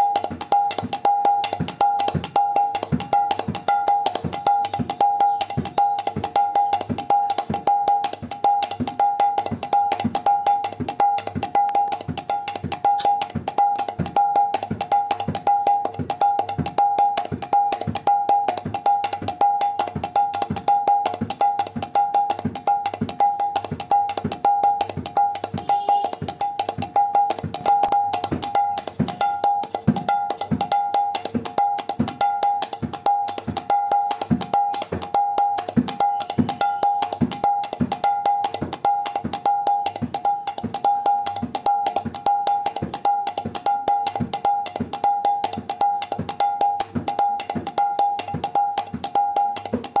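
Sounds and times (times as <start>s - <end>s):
rhythmic percussion beat: 0.0s - 50.0s.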